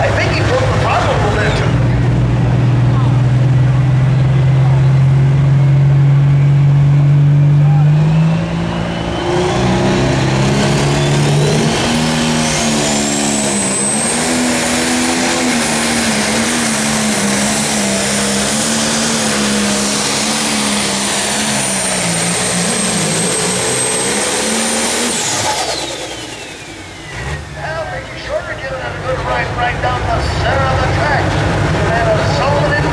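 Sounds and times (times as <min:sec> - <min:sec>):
turbo whine: 0:00.0 - 0:28.9
diesel engine at full power: 0:00.0 - 0:32.9.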